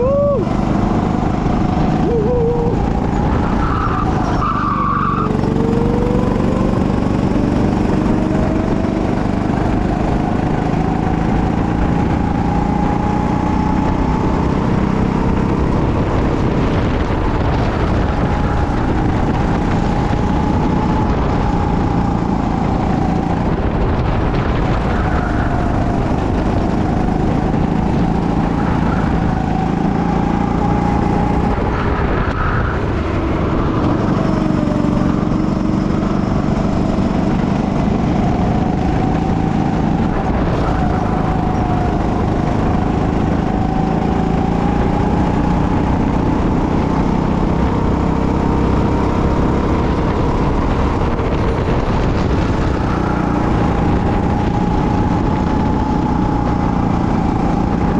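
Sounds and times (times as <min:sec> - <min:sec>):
go-kart engine accelerating: 0:00.0 - 0:57.9.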